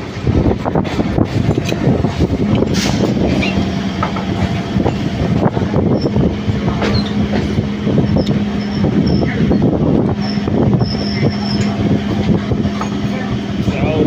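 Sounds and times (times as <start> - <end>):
train coach rumbling and rattling: 0.0 - 14.0
wheels clicking over rails: 0.0 - 14.0.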